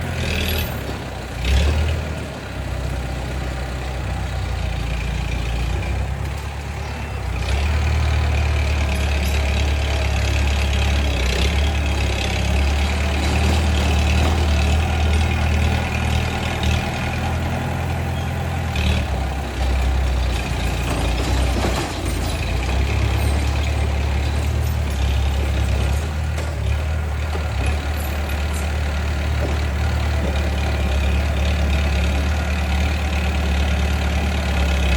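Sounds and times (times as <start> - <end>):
bulldozer diesel engine rumbling: 0.0 - 34.9.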